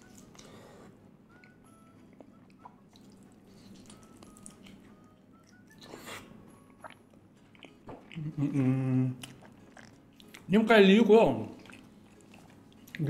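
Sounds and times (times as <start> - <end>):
person eating: 0.0 - 1.0, 2.0 - 10.5, 11.5 - 13.0.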